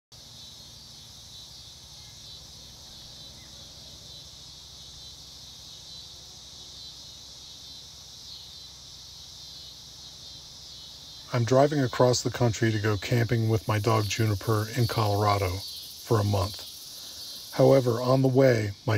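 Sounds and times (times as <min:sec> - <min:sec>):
insects trilling: 0:00.1 - 0:18.9.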